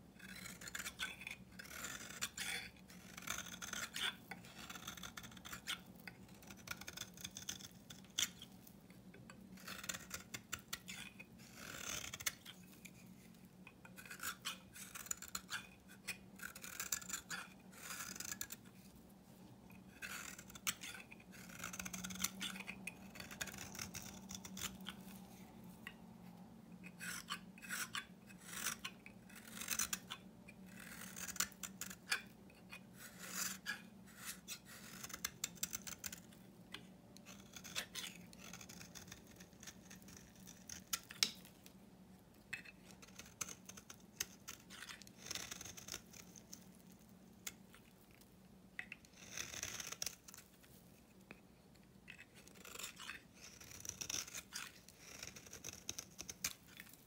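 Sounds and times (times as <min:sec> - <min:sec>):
knife scraping soap: 0:00.2 - 0:57.0.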